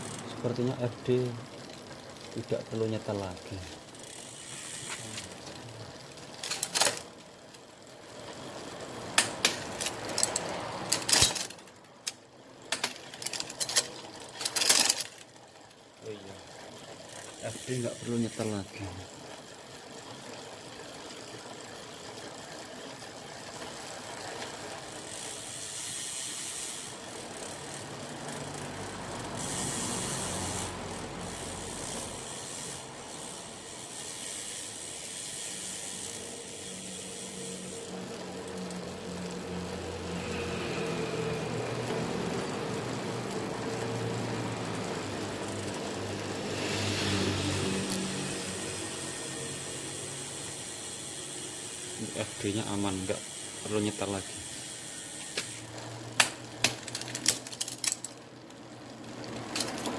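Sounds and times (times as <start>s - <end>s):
bike chain whirring: 0.0s - 59.9s
freehub pawls ratcheting: 0.0s - 59.9s.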